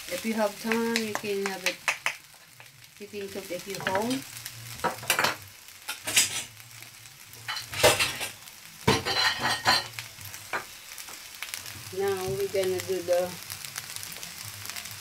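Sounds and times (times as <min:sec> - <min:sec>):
fried rice sizzling in a pan: 0:00.0 - 0:15.0.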